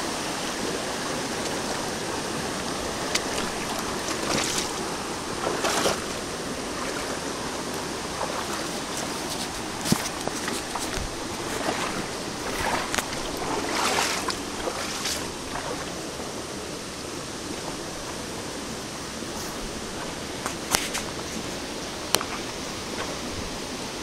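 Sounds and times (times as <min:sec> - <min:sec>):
water flowing over rocks: 0:00.0 - 0:24.0.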